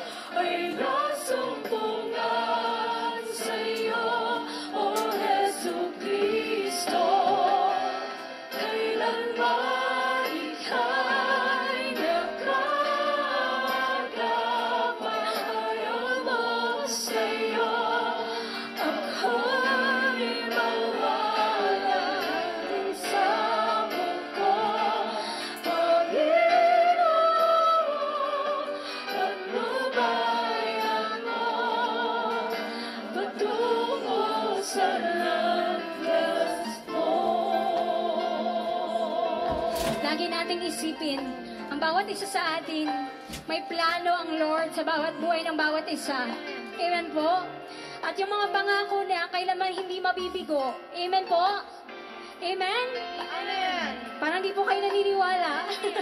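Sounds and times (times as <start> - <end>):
group singing worship song: 0.0 - 48.8, 52.9 - 56.0.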